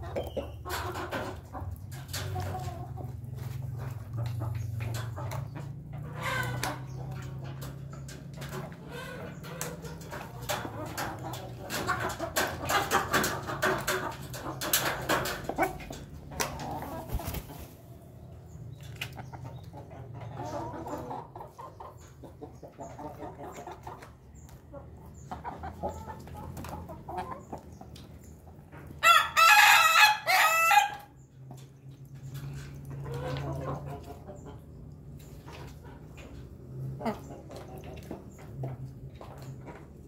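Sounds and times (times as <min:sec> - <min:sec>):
roosters clucking: 0:00.0 - 0:40.0.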